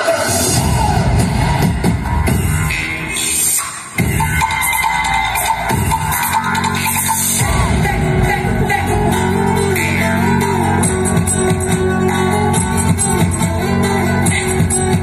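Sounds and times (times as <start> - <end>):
dance music over loudspeakers: 0.0 - 15.0.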